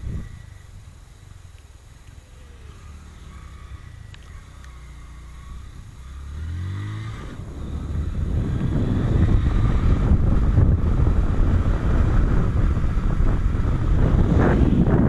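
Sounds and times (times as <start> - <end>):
motorcycle engine accelerating: 0.0 - 0.9, 2.0 - 15.0
wind buffeting microphone: 0.0 - 1.0, 3.3 - 15.0.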